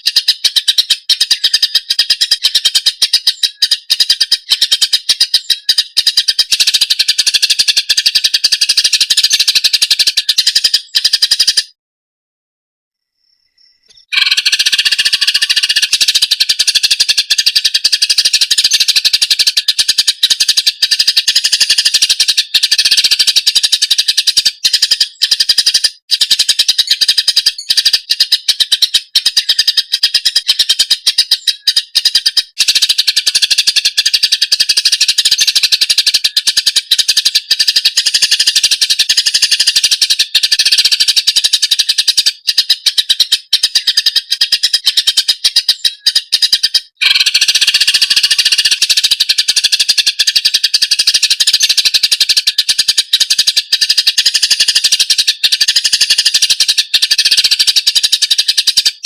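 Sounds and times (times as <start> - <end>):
bird singing rapid chattering song: 0.0 - 11.8, 13.2 - 59.0.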